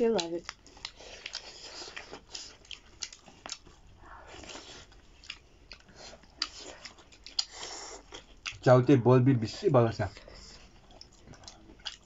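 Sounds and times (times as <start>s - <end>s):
people chewing meat: 0.0s - 12.0s.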